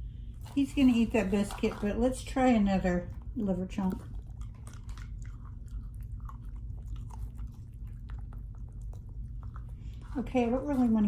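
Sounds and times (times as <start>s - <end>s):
dog crunching a treat: 0.3s - 11.0s.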